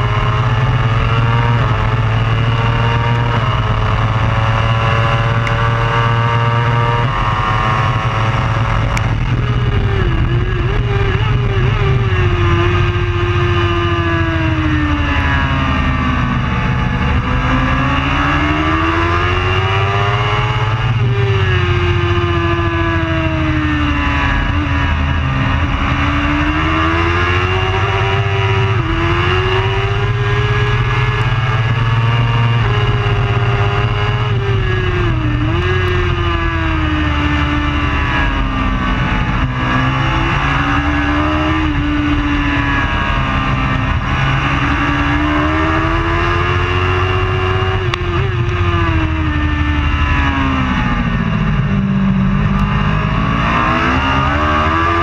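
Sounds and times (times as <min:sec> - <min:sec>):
racing motorcycle engine revving: 0:00.0 - 0:55.0.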